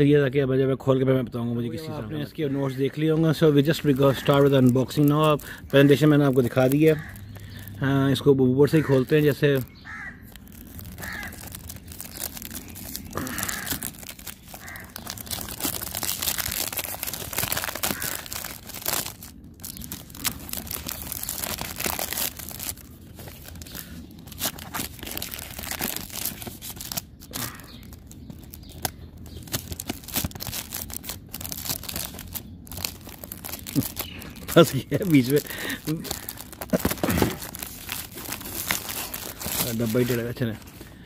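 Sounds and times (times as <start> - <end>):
plastic wrap tearing and crinkling: 3.4 - 7.7, 8.7 - 40.8.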